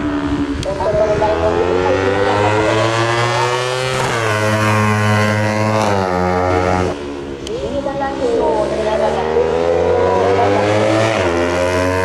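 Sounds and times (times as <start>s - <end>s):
racing motorcycle accelerating: 0.0s - 12.0s.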